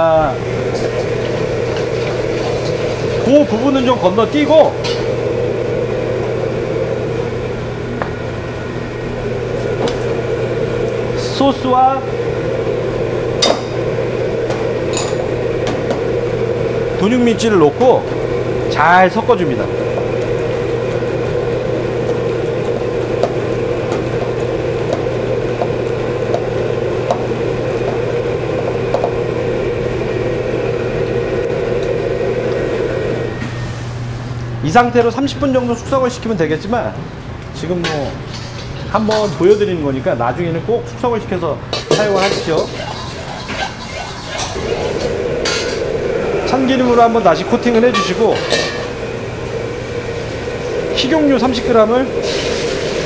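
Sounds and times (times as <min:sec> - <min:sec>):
kitchen equipment whirring: 0:00.0 - 0:36.9, 0:41.2 - 0:53.0
wok range hum and rush: 0:00.0 - 0:53.0.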